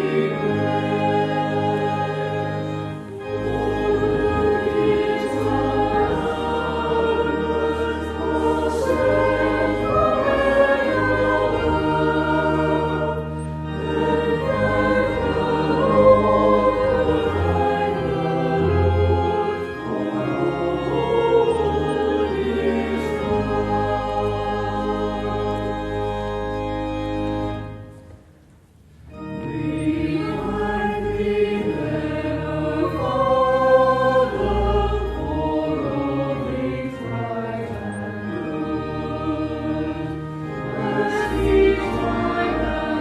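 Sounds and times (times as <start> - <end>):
choir singing: 0.0 - 27.8, 29.2 - 43.0
sustained organ chords: 0.0 - 43.0.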